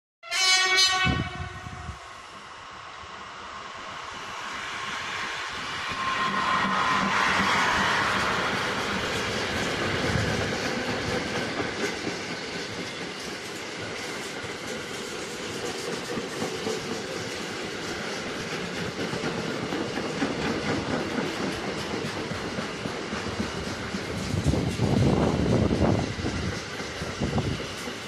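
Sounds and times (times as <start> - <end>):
freight train rumble: 0.3 - 28.0.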